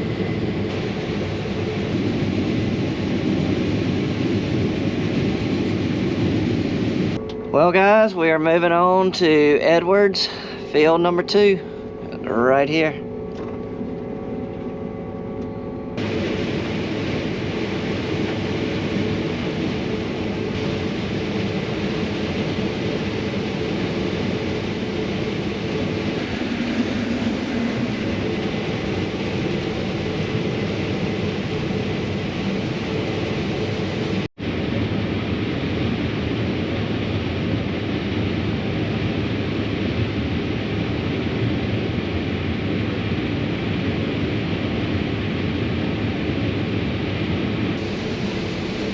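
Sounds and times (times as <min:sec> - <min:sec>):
combine harvester running: 0:00.0 - 0:40.4, 0:44.3 - 0:48.9.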